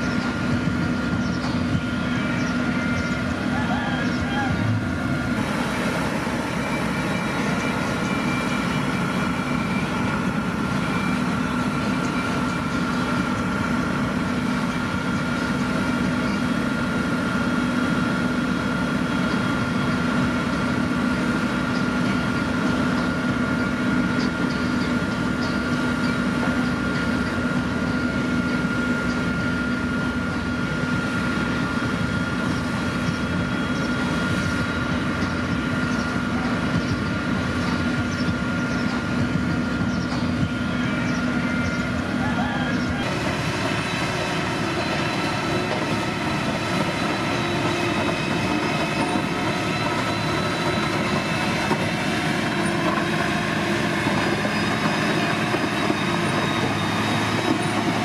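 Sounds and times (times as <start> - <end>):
constant whine: 0.0 - 58.0
diesel engine running: 0.0 - 58.0.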